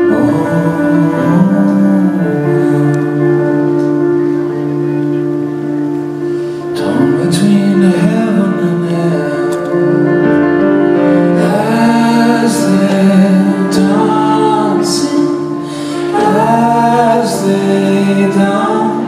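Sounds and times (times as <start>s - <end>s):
person singing slow melody: 0.0s - 19.0s
sustained keyboard chords: 0.0s - 19.0s.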